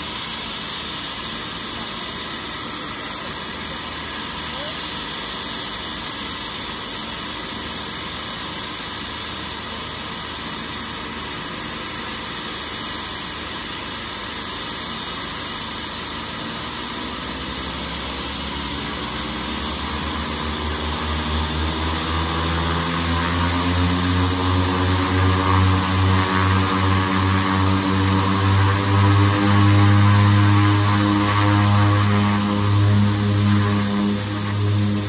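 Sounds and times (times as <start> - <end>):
propeller plane engines: 0.0 - 35.0.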